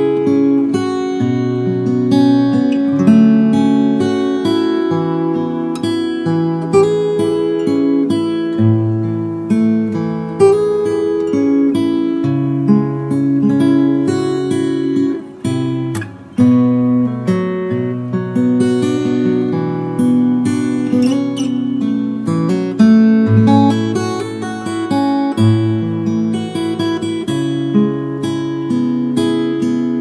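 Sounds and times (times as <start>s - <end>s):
slow acoustic guitar piece: 0.0s - 30.0s.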